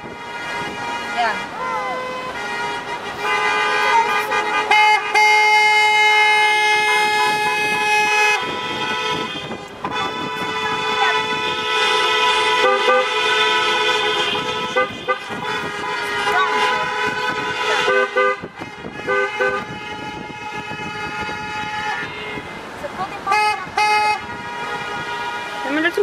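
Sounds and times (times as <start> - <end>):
car horns honking: 0.0 - 26.0.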